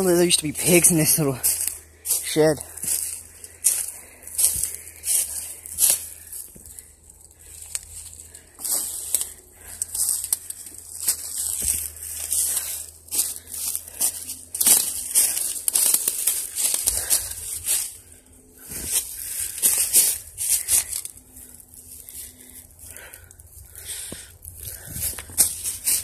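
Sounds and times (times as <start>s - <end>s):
footsteps crunching through leaves: 0.0s - 26.0s.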